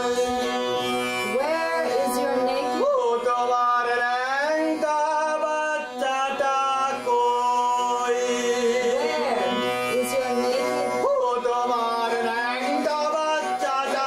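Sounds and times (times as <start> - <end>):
bowed string instrument melody: 0.0 - 14.0.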